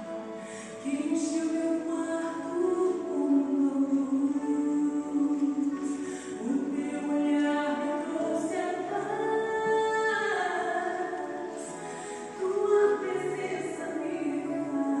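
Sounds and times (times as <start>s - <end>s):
slow music with singing: 0.0s - 15.0s.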